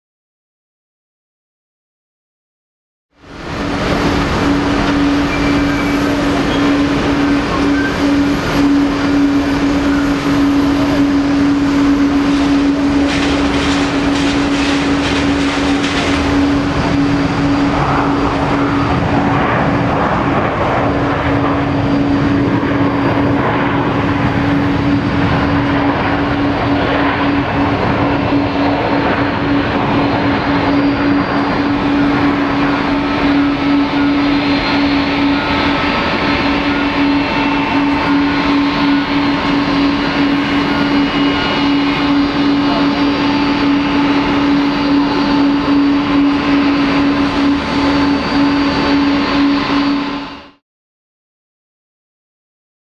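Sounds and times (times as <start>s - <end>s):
constant low hum: 3.2s - 50.6s
jet airliner roar: 3.2s - 50.6s.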